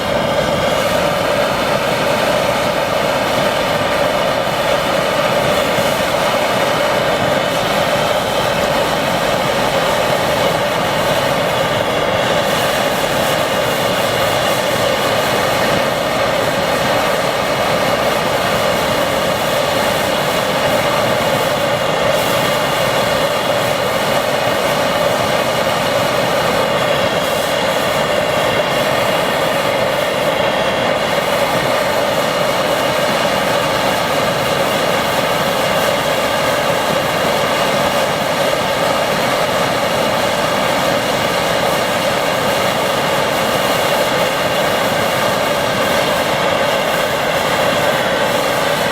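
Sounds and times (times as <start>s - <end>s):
pressure stove burner roaring: 0.0s - 48.9s.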